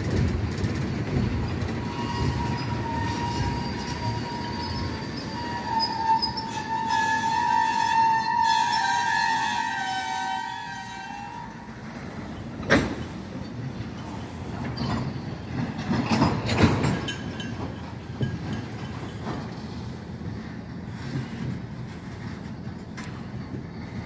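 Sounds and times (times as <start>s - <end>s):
train wheels rumbling on rails: 0.0s - 24.0s
wheels clanking over rail joints: 0.0s - 24.0s.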